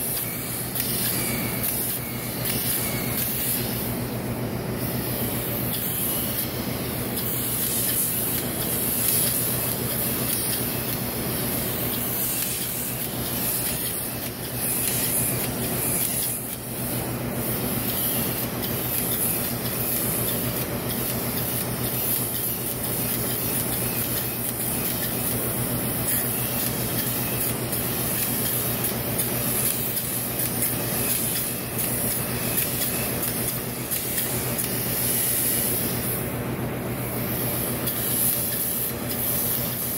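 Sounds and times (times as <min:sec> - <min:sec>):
spray gun hissing: 0:00.0 - 0:04.2, 0:04.8 - 0:36.4, 0:37.0 - 0:39.9.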